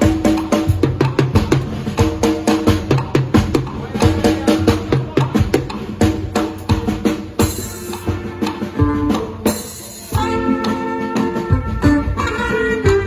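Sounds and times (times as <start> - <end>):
band music: 0.0 - 13.0
drum kit steady beat: 0.0 - 13.0.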